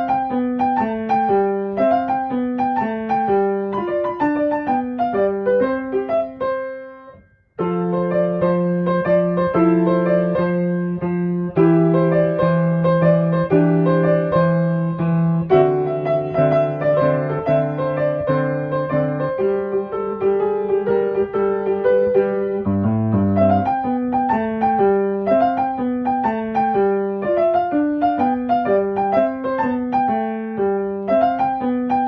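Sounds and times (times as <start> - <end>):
piano music: 0.0 - 32.0
piano piece with held chords: 0.0 - 32.0.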